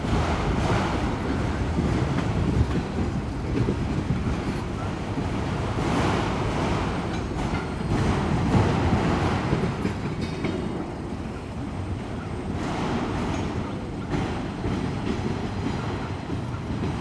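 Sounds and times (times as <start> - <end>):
freight train cars rolling past: 0.0 - 17.0
wheels clacking on rail: 0.0 - 17.0.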